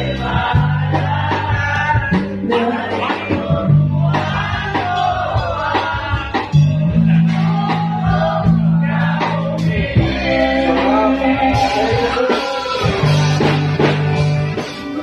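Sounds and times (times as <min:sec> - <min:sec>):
person singing: 0:00.0 - 0:13.9
bass guitar long notes: 0:00.0 - 0:15.0
drums: 0:00.0 - 0:15.0.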